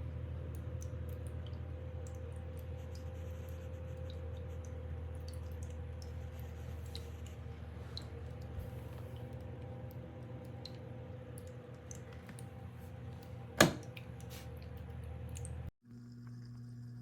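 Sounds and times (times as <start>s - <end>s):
water pump humming: 0.0s - 17.0s
water dripping: 0.4s - 15.7s
water trickling: 0.4s - 15.7s.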